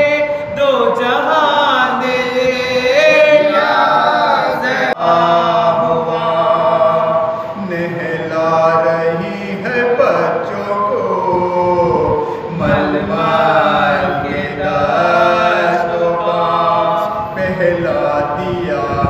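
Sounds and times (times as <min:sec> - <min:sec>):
men chanting slow elegy: 0:00.0 - 0:19.0.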